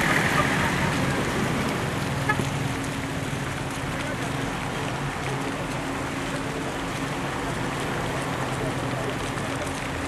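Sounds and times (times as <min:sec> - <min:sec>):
floodwater rushing over ground: 0:00.0 - 0:10.0.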